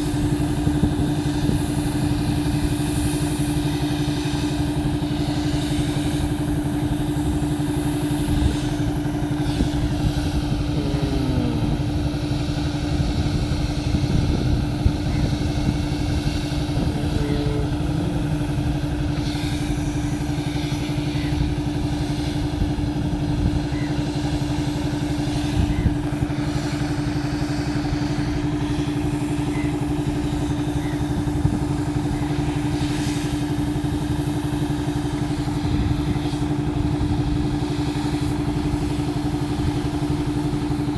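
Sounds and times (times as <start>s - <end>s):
road roller engine droning: 0.0s - 40.9s.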